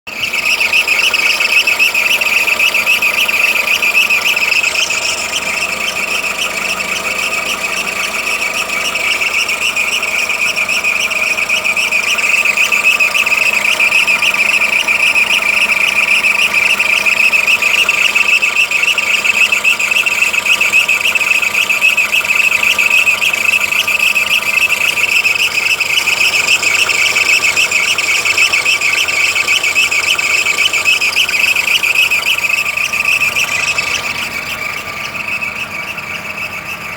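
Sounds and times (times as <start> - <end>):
car engine running: 0.1 - 36.9
high-pitched belt whistle: 0.1 - 36.9.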